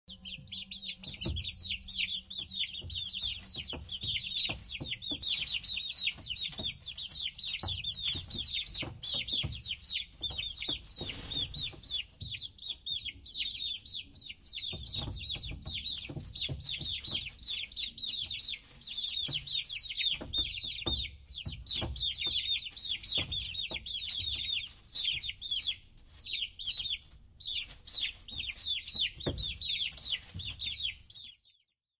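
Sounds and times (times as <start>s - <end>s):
chicks peeping: 0.1s - 31.7s.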